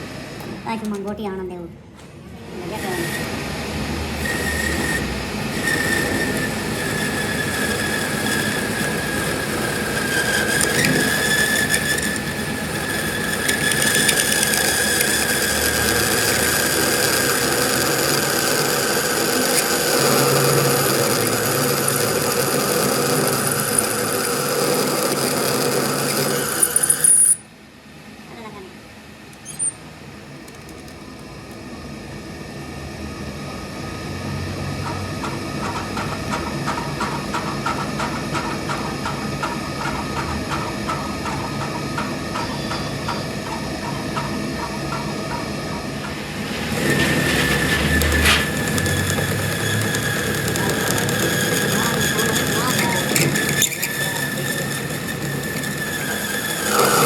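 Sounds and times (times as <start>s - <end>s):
machine grinding metal: 2.7s - 27.4s, 34.9s - 57.0s
high squealing whine: 2.7s - 27.6s, 29.3s - 30.1s, 31.7s - 57.0s.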